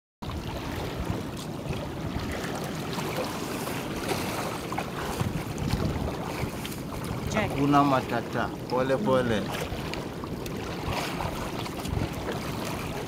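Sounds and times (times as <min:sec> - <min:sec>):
boat engine rumble: 0:00.2 - 0:13.0
water rushing: 0:00.2 - 0:13.0
wind buffeting microphone: 0:00.2 - 0:13.0.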